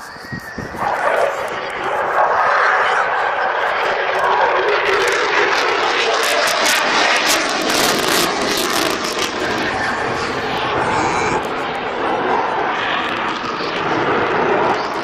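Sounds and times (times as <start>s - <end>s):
jet engine roar with crackle: 0.0s - 15.0s.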